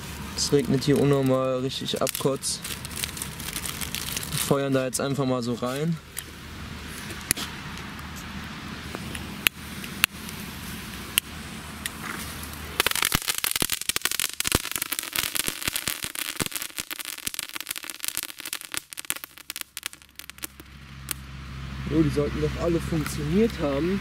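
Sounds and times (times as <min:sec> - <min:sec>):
crackling fireworks: 0:00.0 - 0:05.0, 0:05.6 - 0:21.4.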